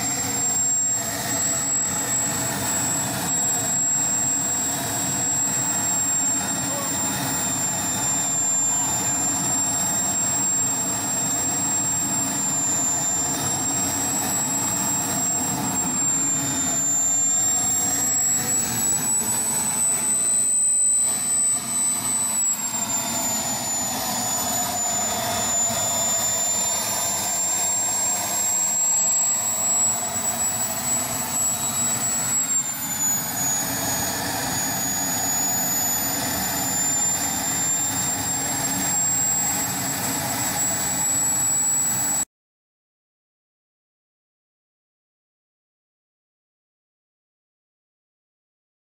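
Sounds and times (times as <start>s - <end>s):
jet turbine roaring and whining: 0.0s - 42.3s.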